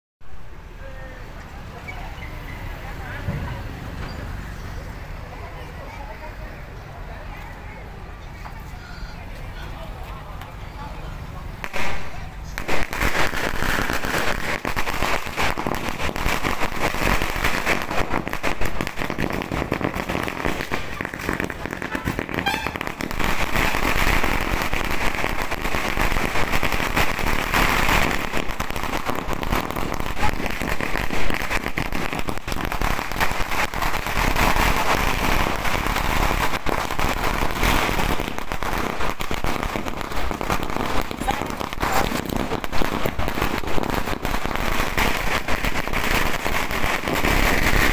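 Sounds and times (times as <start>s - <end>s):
firecrackers crackling: 0.2s - 47.9s.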